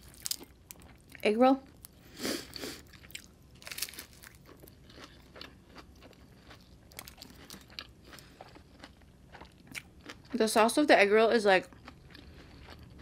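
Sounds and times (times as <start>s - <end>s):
crunching and chewing egg roll: 0.0s - 10.8s, 11.5s - 13.0s.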